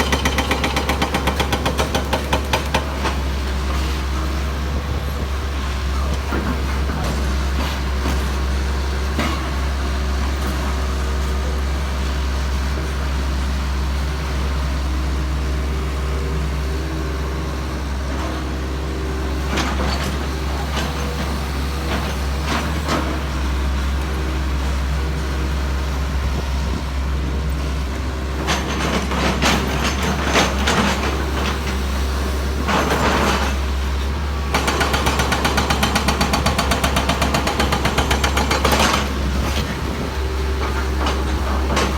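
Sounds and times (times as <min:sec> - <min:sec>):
heavy vehicle engine running: 0:00.0 - 0:41.9.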